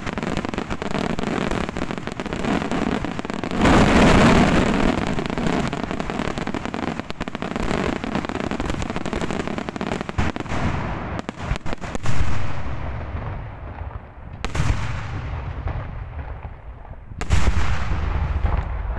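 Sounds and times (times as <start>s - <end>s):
fireworks bangs and crackles: 0.0s - 18.9s
fireworks booms: 0.0s - 18.9s.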